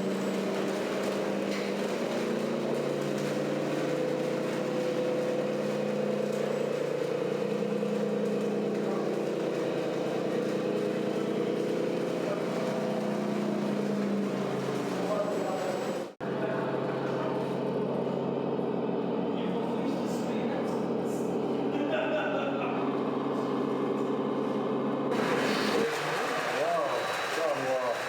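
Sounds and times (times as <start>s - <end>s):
simulated truck engine: 0.0s - 28.0s.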